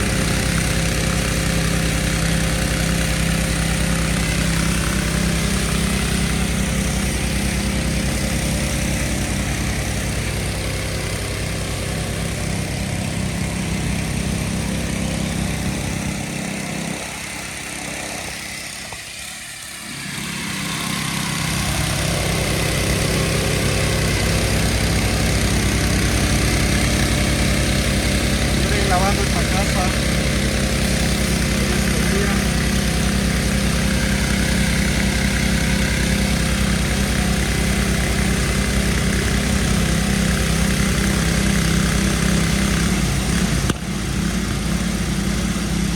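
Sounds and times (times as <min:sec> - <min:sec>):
pressure washer running: 0:00.0 - 0:45.9.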